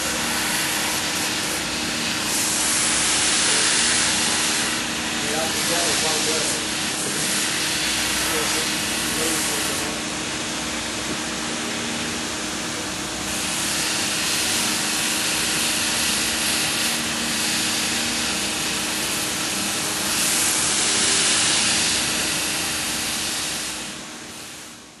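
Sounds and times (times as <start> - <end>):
machinery hissing and humming: 0.0 - 25.0.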